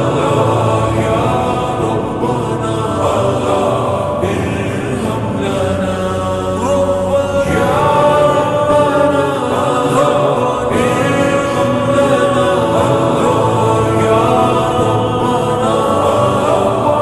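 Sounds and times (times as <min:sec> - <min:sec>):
reverberant singing voice: 0:00.0 - 0:17.0.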